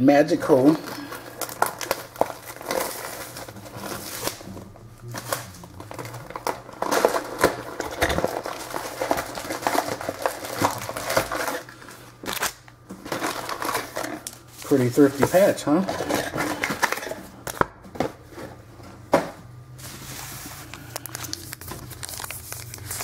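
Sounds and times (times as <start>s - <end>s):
low steady hum: 0.0s - 23.0s
plastic and foil wrapping crinkling: 0.4s - 18.5s, 19.8s - 23.0s.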